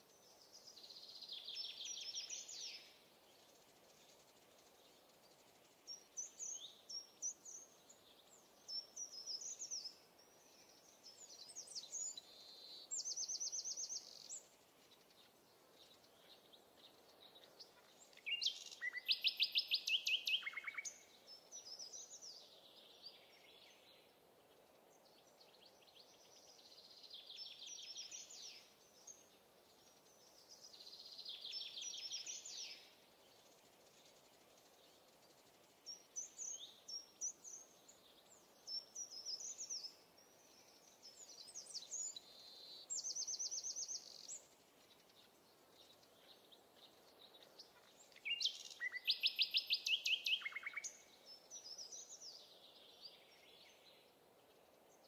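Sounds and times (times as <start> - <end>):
faint outdoor hiss: 0.0 - 55.0
songbirds singing: 0.0 - 55.0.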